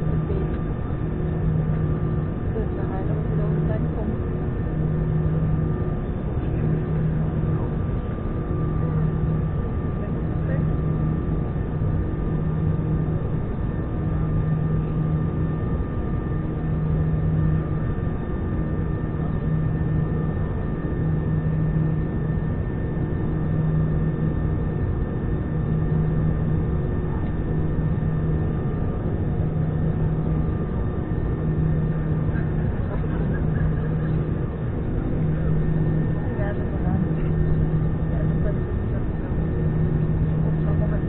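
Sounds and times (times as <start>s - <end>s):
aircraft engines droning: 0.0s - 41.0s
low hum: 0.0s - 41.0s.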